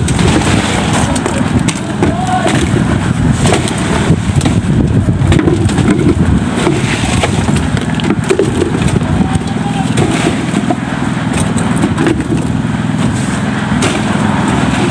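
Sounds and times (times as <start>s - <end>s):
metal pails knocking and scraping: 0.0s - 14.9s
small engine running: 0.0s - 14.9s.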